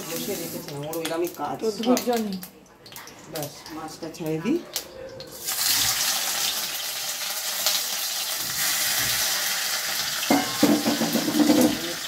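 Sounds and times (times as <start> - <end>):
fish sizzling in hot oil: 0.0 - 4.5, 5.3 - 12.0.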